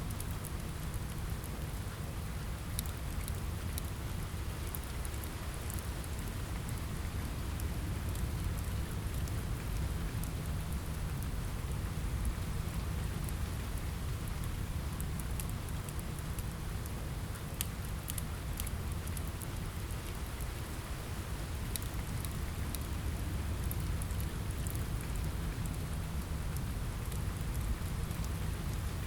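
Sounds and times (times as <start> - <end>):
rain on a window: 0.0 - 29.0
wood fire crackling: 0.1 - 29.0.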